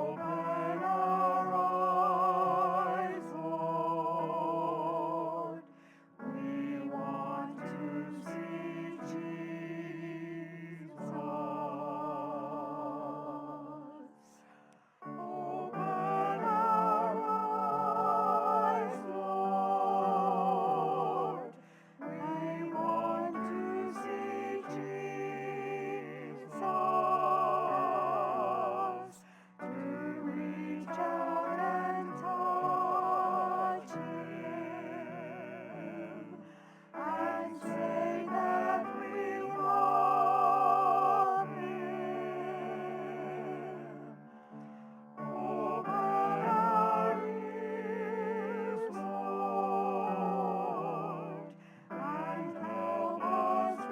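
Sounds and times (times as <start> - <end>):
solo voice singing with vibrato: 0.0 - 5.6, 6.2 - 14.3, 15.1 - 44.3, 45.2 - 53.9
keyboard accompaniment: 0.0 - 53.9.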